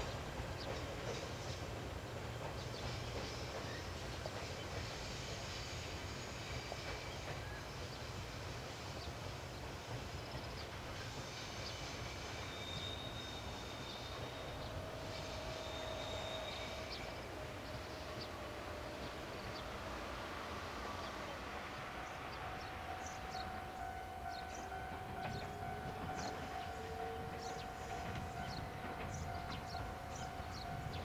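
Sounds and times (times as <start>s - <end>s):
electric train rumbling: 0.0s - 31.0s
high-pitched train squeals: 2.6s - 9.2s, 9.9s - 31.0s.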